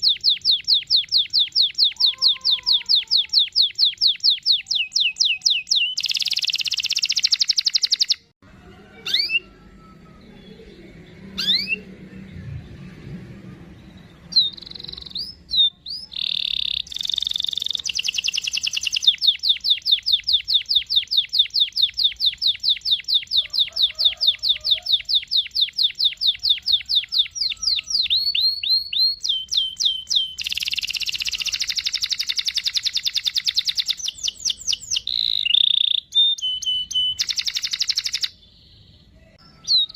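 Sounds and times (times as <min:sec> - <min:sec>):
canary singing trills: 0:00.0 - 0:08.3, 0:08.9 - 0:12.3, 0:13.6 - 0:39.9.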